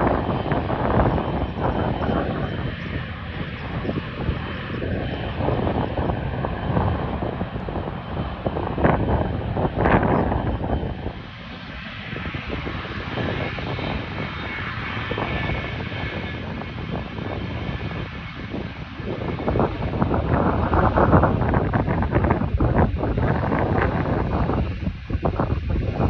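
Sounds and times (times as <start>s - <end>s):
jet engines rumbling: 0.0s - 26.0s
wind buffeting microphone: 0.0s - 26.0s.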